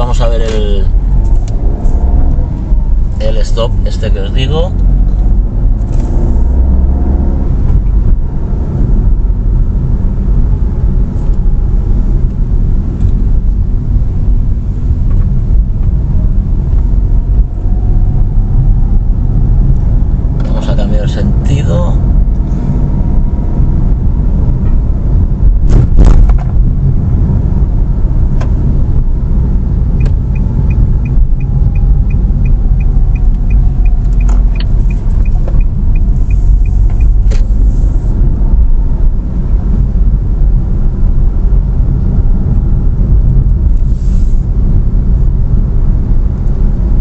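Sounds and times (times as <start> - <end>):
turn signal ticking: 0.0 - 20.6, 26.4 - 43.8
car engine and road rumble: 0.0 - 47.0.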